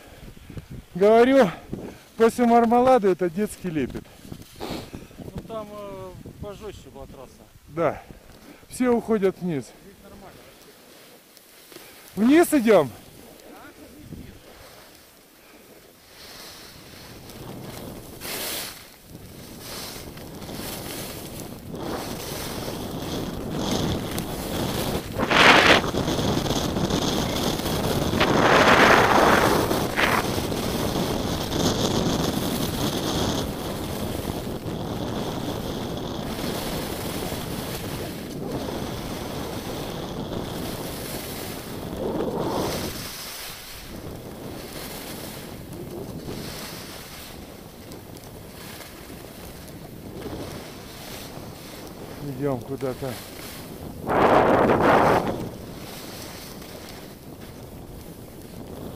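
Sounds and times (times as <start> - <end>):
wind rushing over microphone: 0.0 - 10.5, 12.1 - 14.8, 16.0 - 58.9
skis hissing on snow: 0.0 - 58.9.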